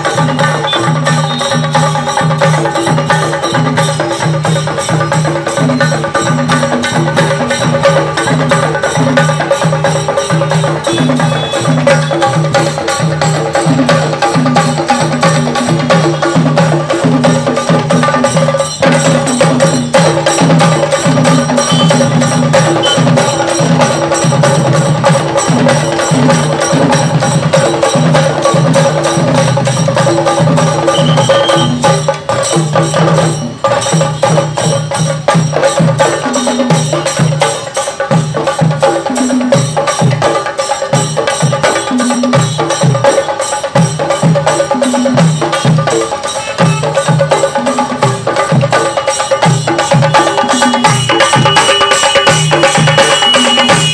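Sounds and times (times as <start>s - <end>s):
cylindrical drums beaten with sticks: 0.0s - 53.9s.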